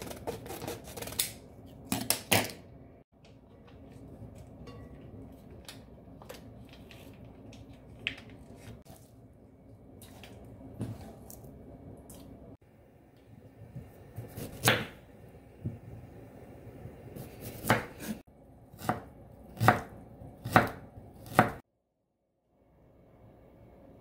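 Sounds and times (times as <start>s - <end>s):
low steady hum: 1.4s - 21.2s.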